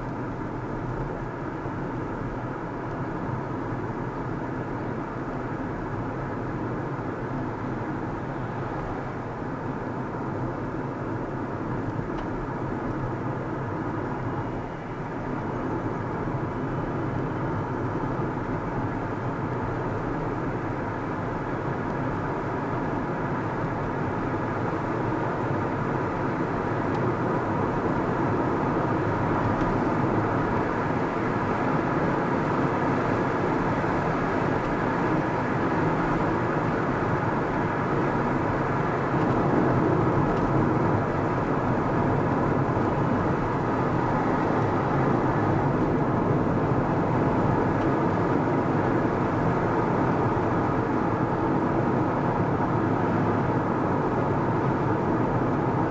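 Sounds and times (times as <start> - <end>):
car engine and tyre noise: 0.0 - 55.9.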